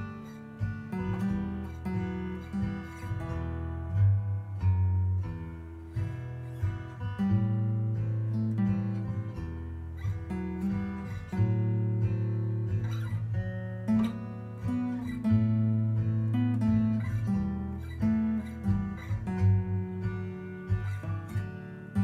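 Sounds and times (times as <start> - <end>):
acoustic guitar picking a tune: 0.0 - 22.0.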